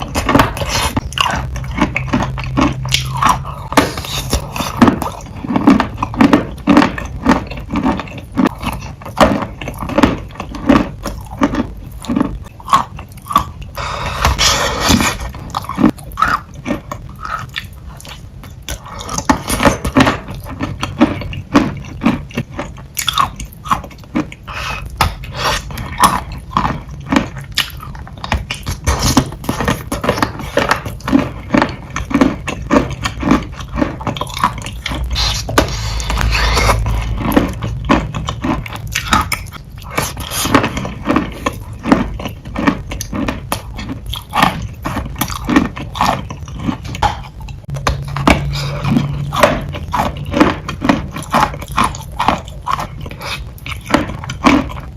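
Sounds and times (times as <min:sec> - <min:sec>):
wet chewing crunches: 0:00.0 - 0:54.9.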